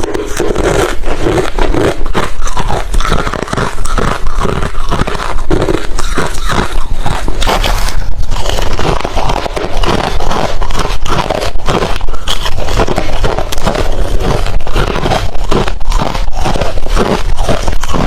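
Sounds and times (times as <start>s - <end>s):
chewing crushed ice: 0.0s - 18.0s.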